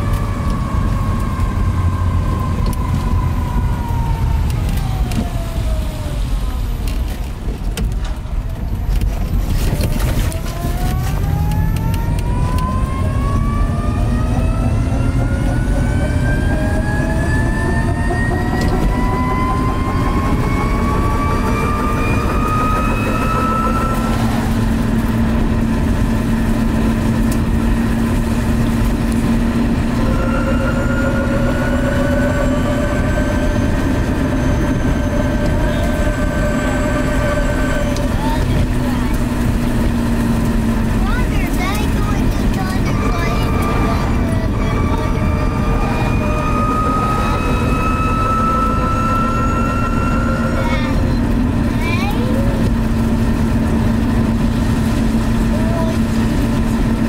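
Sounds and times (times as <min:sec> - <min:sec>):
tyres rumbling on road: 0:00.0 - 0:57.0
electric motor whining: 0:09.6 - 0:57.0.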